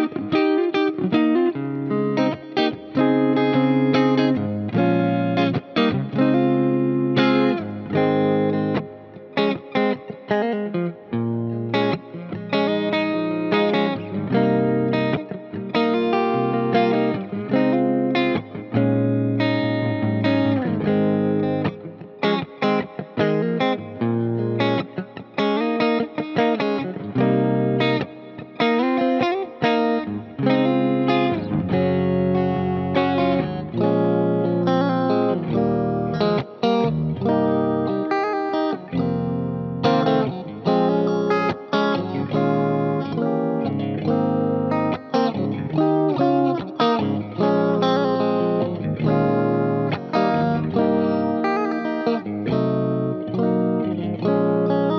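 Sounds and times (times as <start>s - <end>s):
electric guitar with delay and reverb: 0.0s - 54.9s.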